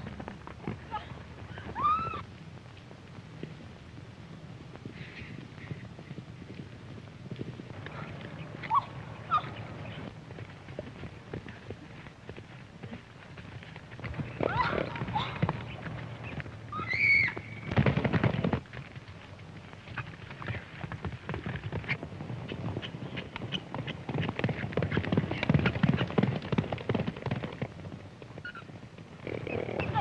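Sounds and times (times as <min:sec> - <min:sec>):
galloping hoofbeats on dry ground: 0:00.0 - 0:30.0.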